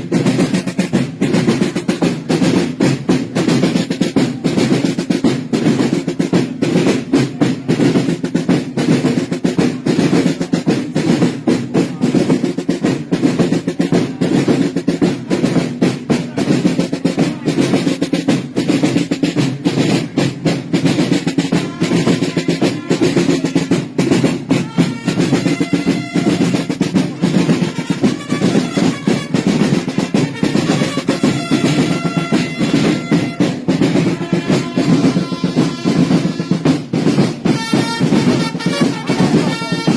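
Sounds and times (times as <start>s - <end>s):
snare drum roll: 0.0s - 39.9s.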